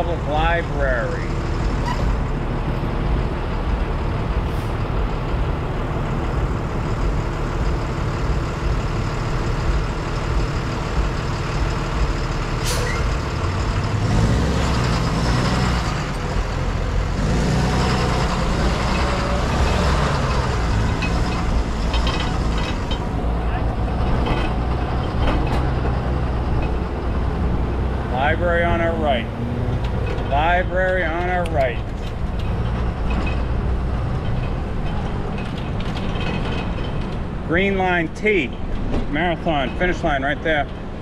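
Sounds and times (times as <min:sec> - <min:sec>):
diesel truck engine idling: 0:00.0 - 0:36.3.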